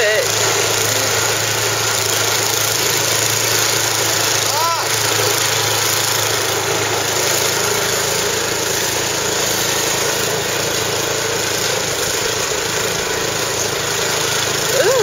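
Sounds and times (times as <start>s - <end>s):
snowblower engine running: 0.0s - 15.0s.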